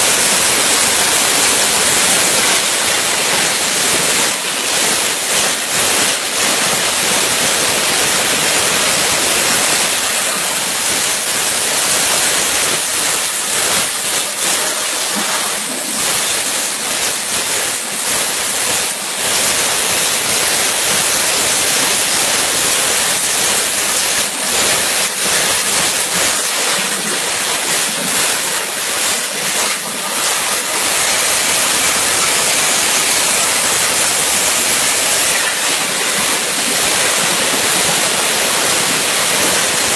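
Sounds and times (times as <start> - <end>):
high-pressure water jet hissing: 0.0 - 39.9.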